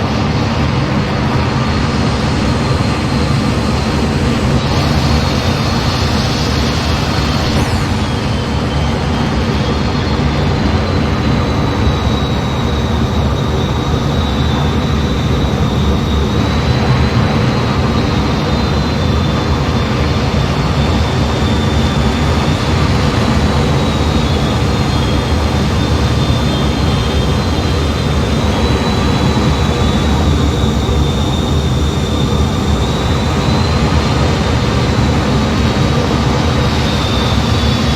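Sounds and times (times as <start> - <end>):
jet cabin engine and air noise: 0.0 - 37.9
thin high whine: 0.0 - 37.9.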